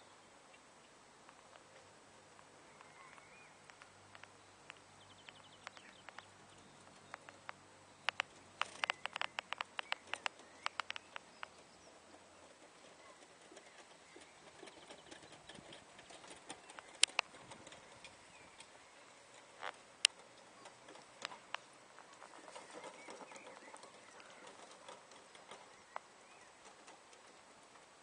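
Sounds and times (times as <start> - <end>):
pony hooves clicking and knocking: 3.8 - 28.0.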